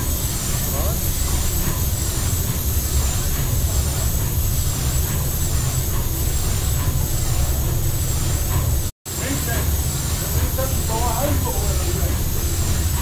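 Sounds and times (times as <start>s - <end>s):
steam engine rumbling rhythmically: 0.0s - 13.0s.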